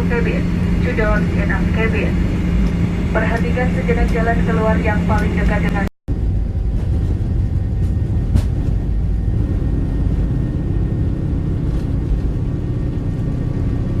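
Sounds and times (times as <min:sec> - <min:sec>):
airliner engine and airflow rumble: 0:00.0 - 0:14.0.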